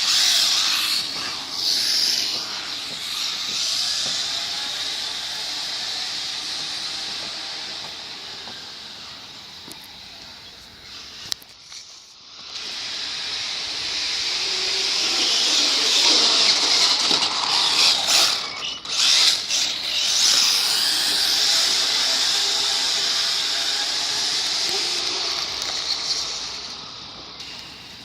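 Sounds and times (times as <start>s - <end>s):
toy car motor whirring: 0.0s - 28.0s.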